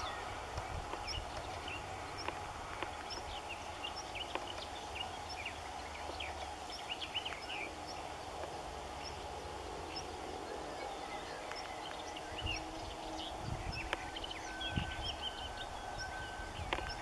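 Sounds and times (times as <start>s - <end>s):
birds chirping: 0.0s - 17.0s
outdoor background noise: 0.0s - 17.0s.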